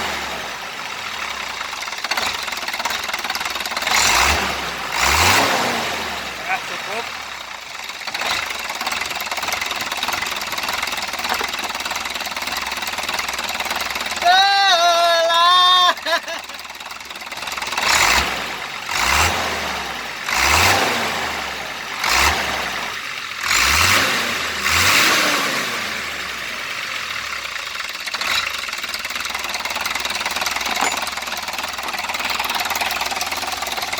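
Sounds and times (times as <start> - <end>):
diesel truck engine idling and revving: 0.0 - 33.9.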